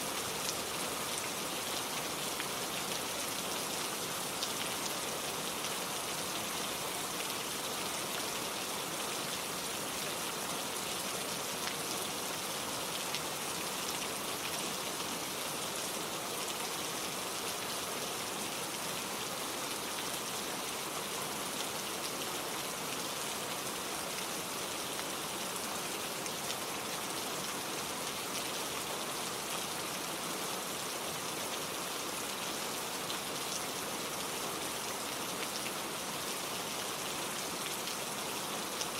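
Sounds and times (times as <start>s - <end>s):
gentle rain falling: 0.0s - 38.9s.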